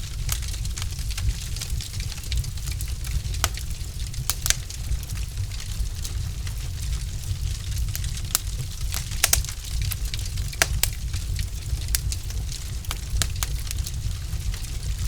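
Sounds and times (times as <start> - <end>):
fire popping and snapping: 0.0 - 15.0
fire rumbling: 0.0 - 15.0.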